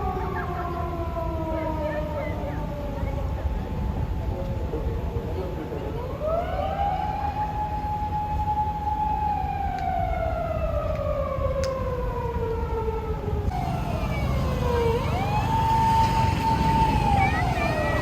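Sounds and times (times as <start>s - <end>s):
police siren wailing: 0.0s - 3.8s, 5.9s - 18.0s.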